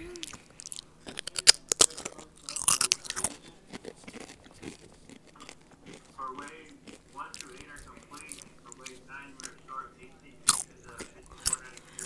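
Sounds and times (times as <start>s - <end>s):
crunching tortilla chip: 0.2s - 9.6s, 10.5s - 12.0s.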